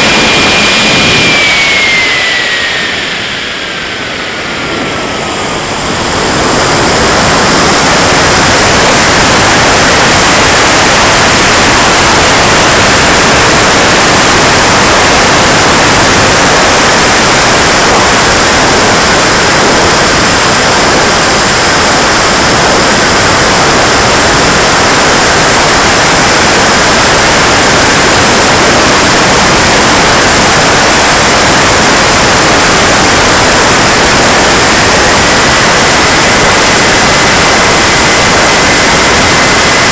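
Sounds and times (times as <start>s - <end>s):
model jet turbine running: 0.0s - 39.9s.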